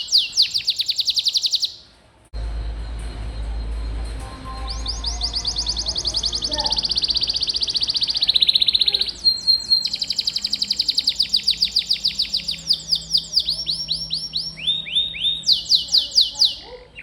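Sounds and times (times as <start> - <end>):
canary singing trills: 0.0 - 1.9, 4.4 - 17.0.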